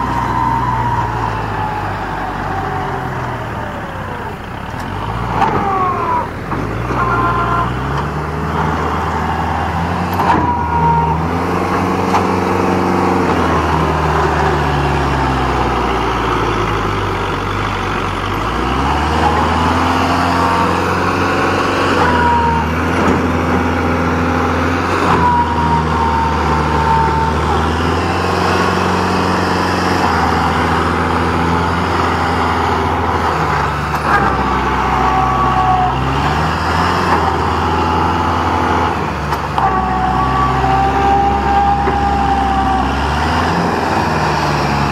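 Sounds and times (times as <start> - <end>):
tractor engine revving under load: 0.0 - 44.9.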